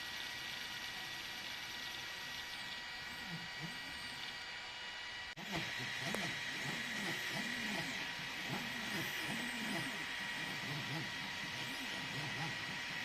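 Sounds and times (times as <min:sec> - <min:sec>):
fan hiss with high tone: 0:00.0 - 0:13.0
stepper motors whirring in sweeps: 0:00.0 - 0:13.0.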